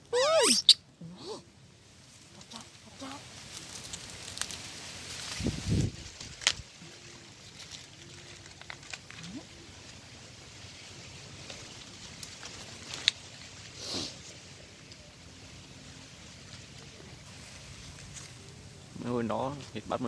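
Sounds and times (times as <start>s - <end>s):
corn husks rustling: 1.6s - 20.0s.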